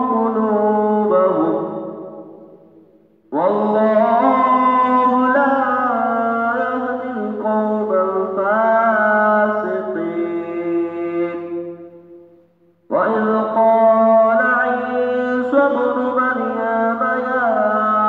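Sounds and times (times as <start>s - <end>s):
man reciting melodically: 0.0s - 2.6s, 3.2s - 18.0s.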